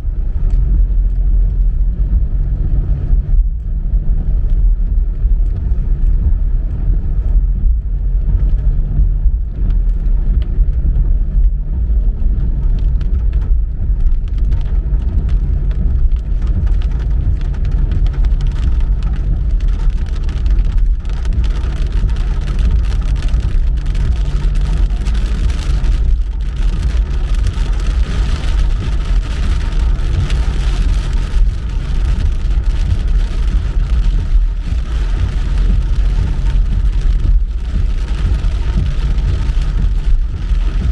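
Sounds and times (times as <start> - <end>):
fine crackling spatter: 0.0 - 40.9
low rumble of road and engine: 0.0 - 40.9
hiss of rain and wet tyres: 0.1 - 40.9.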